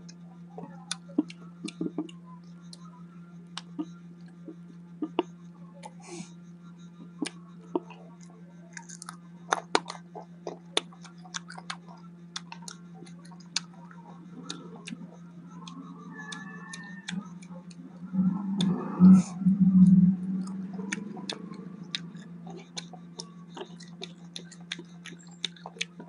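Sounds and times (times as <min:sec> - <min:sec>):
mouth chewing and crunching: 0:00.0 - 0:02.8, 0:03.5 - 0:06.0, 0:07.0 - 0:26.0
steady low hum: 0:00.0 - 0:26.0.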